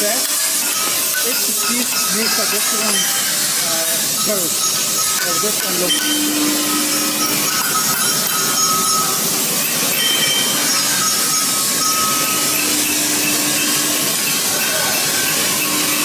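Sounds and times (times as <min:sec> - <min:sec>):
faint metallic rings: 0:00.0 - 0:16.0
hissing workshop machine: 0:00.0 - 0:16.0.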